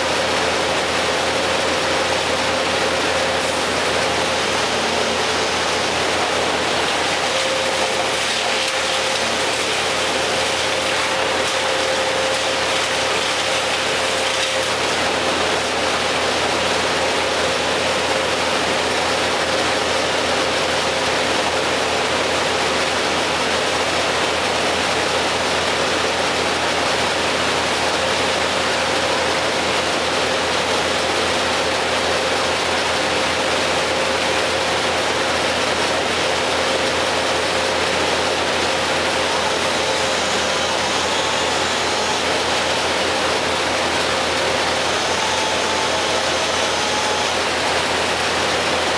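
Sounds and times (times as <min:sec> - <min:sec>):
heavy machinery running: 0:00.0 - 0:48.9.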